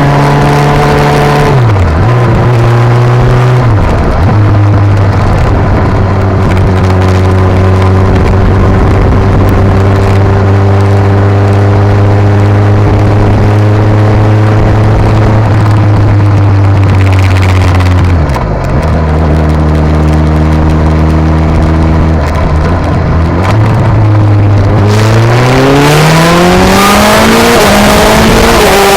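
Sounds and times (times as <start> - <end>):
motorcycle engine through exhaust: 0.0 - 28.9
wind noise on microphone: 0.0 - 28.9.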